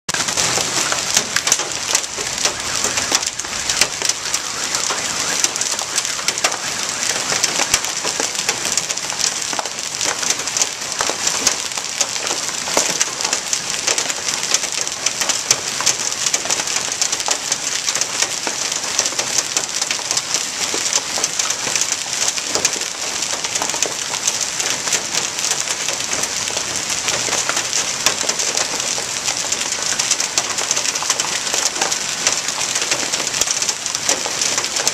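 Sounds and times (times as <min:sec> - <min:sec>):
hailstones tapping on vehicle: 0:00.1 - 0:34.9
rain hissing on truck: 0:00.1 - 0:34.9.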